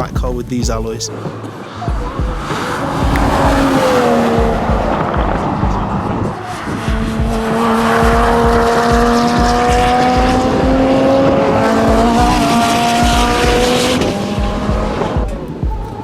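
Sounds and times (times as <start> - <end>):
sports car engine at high revs: 1.1 - 16.0.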